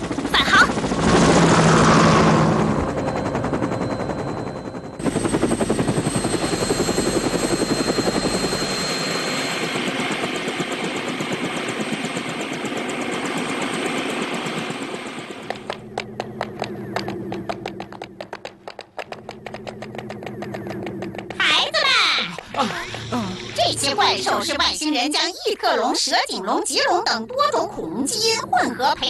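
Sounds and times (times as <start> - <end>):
helicopter rotors chopping: 0.0 - 29.0.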